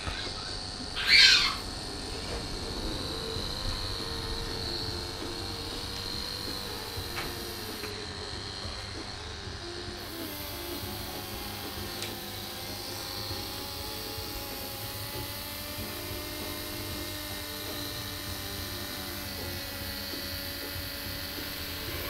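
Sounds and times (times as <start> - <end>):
electric clippers humming: 0.0 - 22.0.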